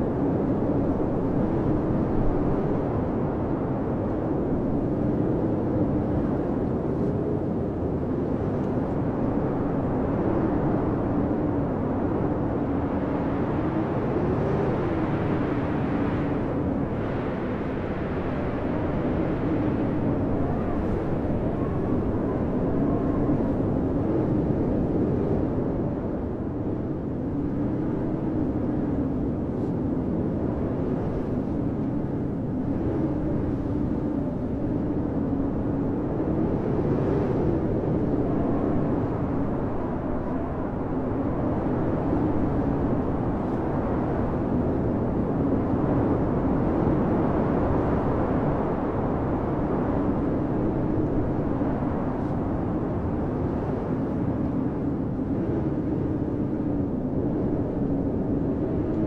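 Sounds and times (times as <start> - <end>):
strong blizzard wind blowing: 0.0 - 59.0.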